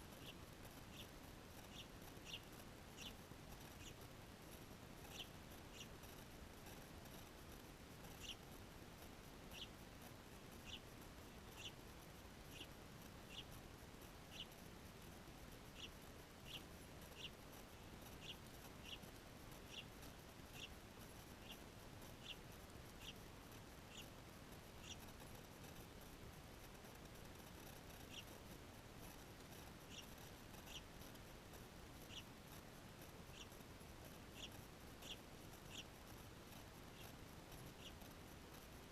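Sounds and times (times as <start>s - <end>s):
low background hiss: 0.0s - 38.9s
small bird chirping: 0.0s - 38.9s.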